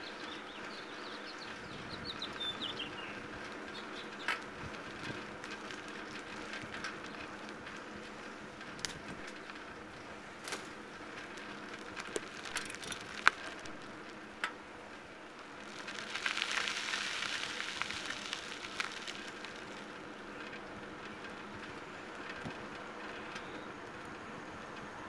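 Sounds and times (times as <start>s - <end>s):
bicycle rattles and clicks: 0.0s - 25.0s.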